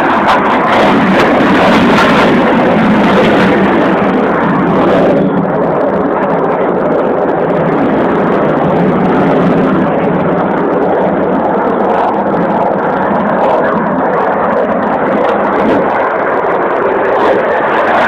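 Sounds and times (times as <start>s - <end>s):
jet engines flying overhead: 0.0s - 18.0s.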